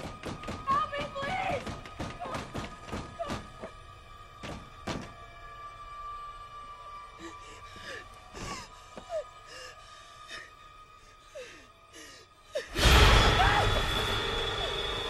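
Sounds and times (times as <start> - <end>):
tense music drone: 0.0 - 15.0.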